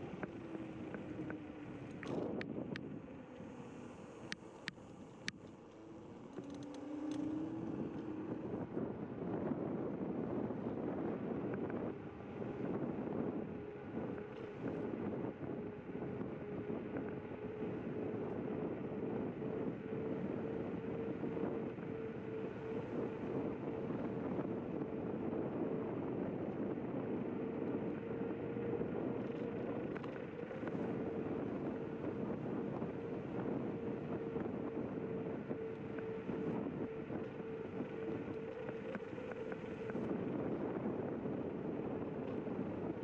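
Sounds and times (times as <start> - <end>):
wind on microphone: 0.0 - 3.6, 6.6 - 43.0
electric motor hum: 0.0 - 43.0
tyres rumbling on asphalt: 0.0 - 43.0.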